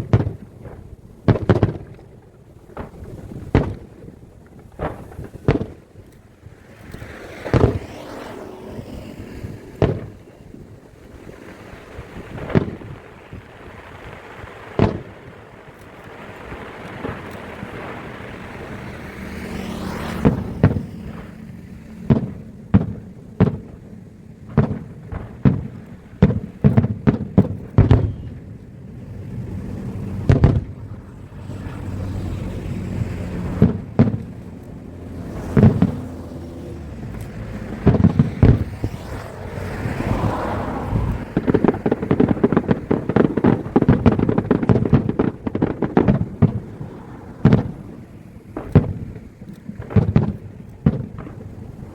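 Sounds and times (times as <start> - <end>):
fireworks bangs: 0.0 - 51.9
fireworks crackling: 0.0 - 51.9.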